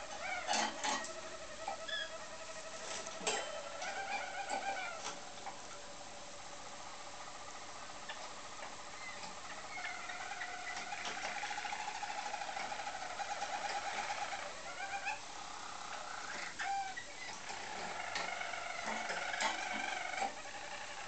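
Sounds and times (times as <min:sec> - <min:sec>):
canaries singing trills: 0:00.0 - 0:21.0.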